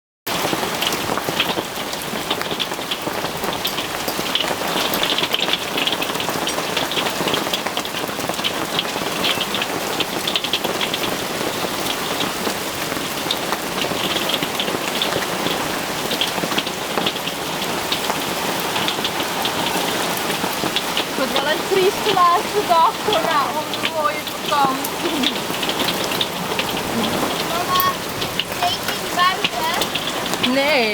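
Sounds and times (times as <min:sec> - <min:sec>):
hail and rain on a roof: 0:00.3 - 0:30.9.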